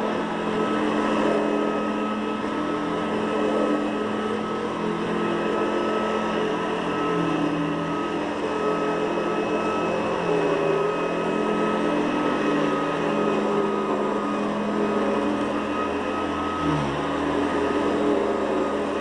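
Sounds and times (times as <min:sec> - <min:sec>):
upright vacuum cleaner running: 0:00.0 - 0:19.0.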